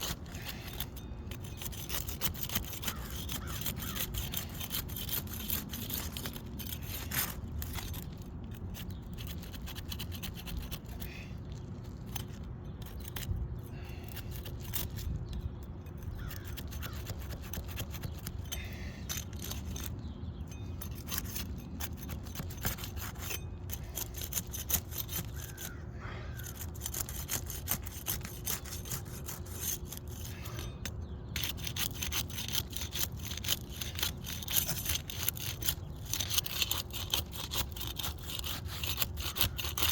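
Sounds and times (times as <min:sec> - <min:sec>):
trowel scraping under roof shingles: 0:00.0 - 0:39.9.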